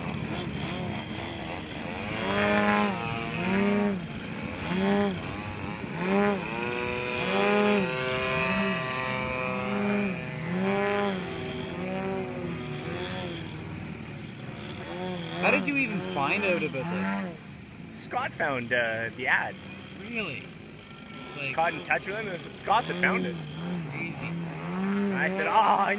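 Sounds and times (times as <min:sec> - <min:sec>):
model plane engine in flight: 0:00.0 - 0:25.9.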